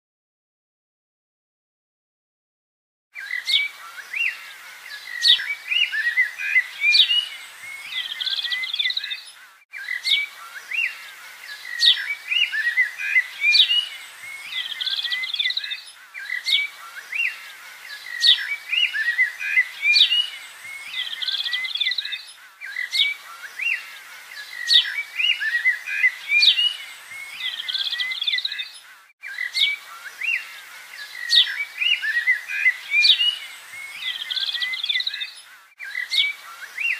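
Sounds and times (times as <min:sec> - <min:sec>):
small birds chirping: 0:03.2 - 0:36.9.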